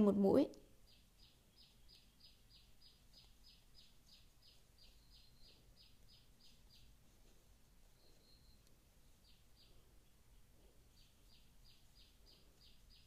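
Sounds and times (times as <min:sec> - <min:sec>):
faint high chirping: 0:00.3 - 0:13.0.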